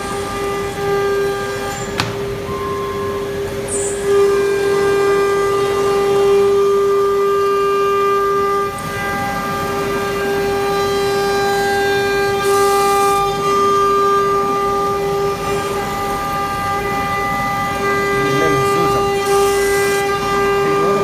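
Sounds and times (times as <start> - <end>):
router spindle whine cutting panel: 0.0 - 21.0.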